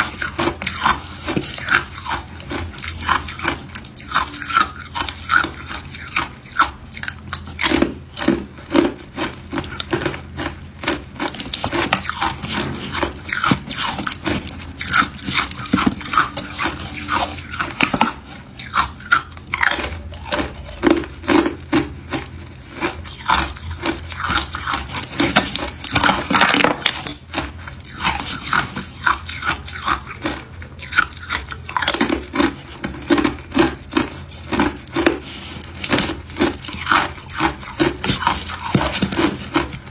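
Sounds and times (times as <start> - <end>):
ice cubes crunching being chewed: 0.0 - 39.9.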